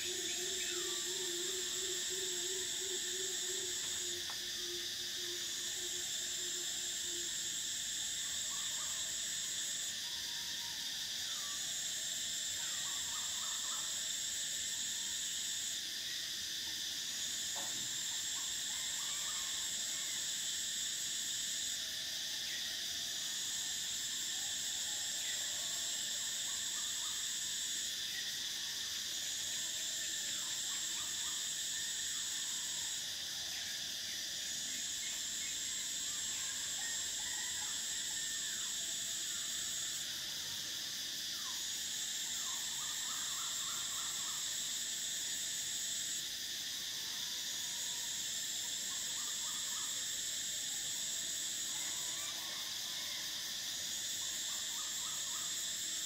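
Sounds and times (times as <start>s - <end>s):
cicadas droning: 0.0s - 56.0s
higher-pitched cicada chorus: 0.0s - 56.0s.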